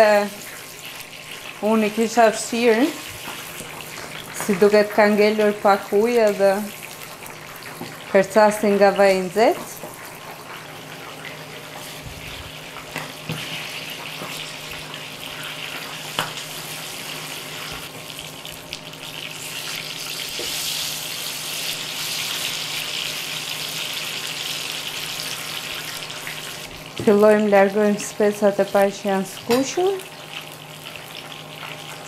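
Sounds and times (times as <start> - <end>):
peppers sizzling in oil: 0.0 - 32.0.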